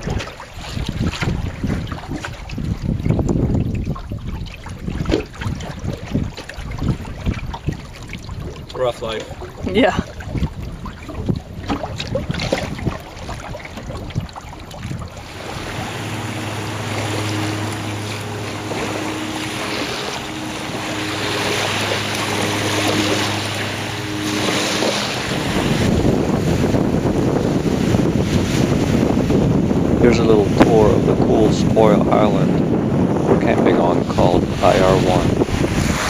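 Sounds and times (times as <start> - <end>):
small waves lapping on shore: 0.0 - 36.0
wind on microphone: 0.0 - 36.0
steady low hum: 0.4 - 36.0.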